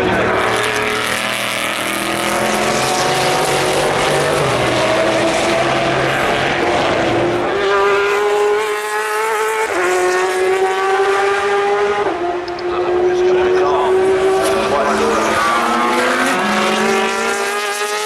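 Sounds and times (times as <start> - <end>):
race car engine accelerating: 0.0 - 18.0
rush of cars and tyres: 0.0 - 18.0.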